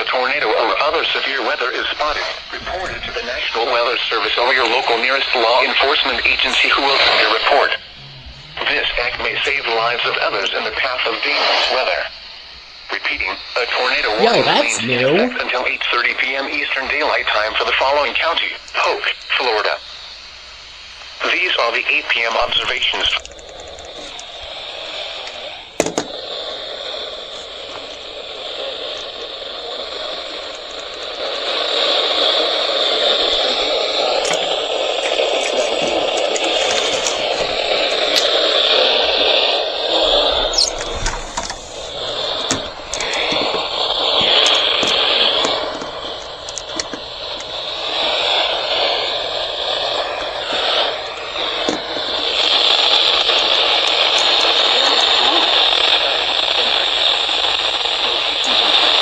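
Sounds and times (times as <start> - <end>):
radio static hiss: 0.0 - 59.0
faint whistles drifting in pitch: 1.0 - 14.7, 21.0 - 59.0.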